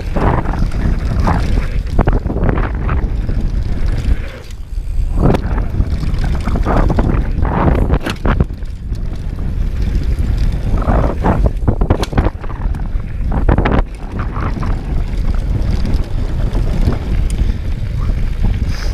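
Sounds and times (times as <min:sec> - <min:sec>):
bike knocks and clatters: 0:00.0 - 0:18.6
bike tyres rolling on dirt: 0:00.0 - 0:18.9
wind buffeting microphone: 0:00.0 - 0:18.9.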